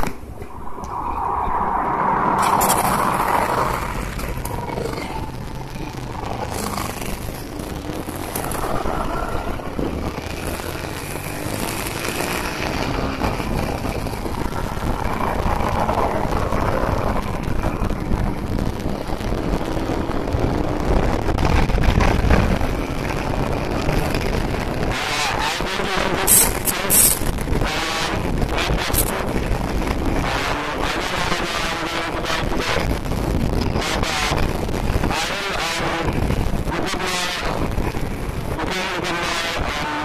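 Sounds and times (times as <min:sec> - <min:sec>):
wind noise on microphone: 0:00.0 - 0:40.0
motorcycle engine revving: 0:02.3 - 0:40.0.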